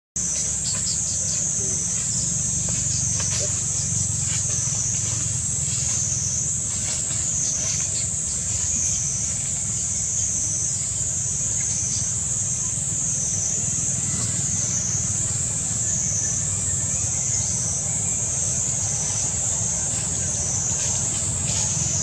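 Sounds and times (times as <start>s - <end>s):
insects buzzing: 0.2s - 22.0s.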